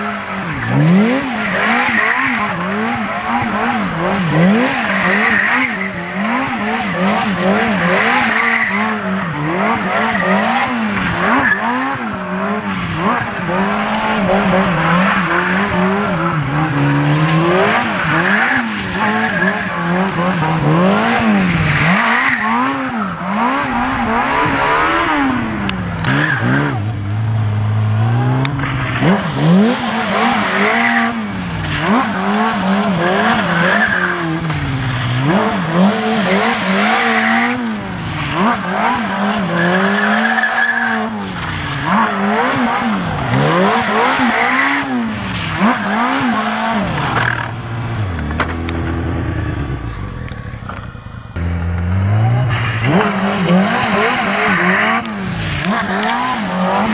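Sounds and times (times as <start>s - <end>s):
motorcycle engine revving: 0.0s - 56.9s
tyre squealing on asphalt: 0.0s - 56.9s.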